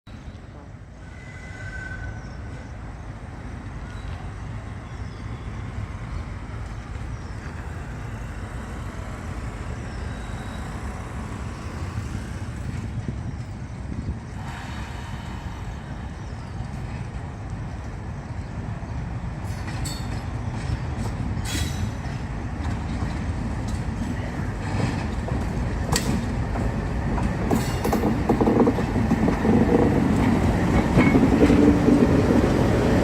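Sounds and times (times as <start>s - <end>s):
diesel locomotive engine chugging: 0.5s - 33.0s.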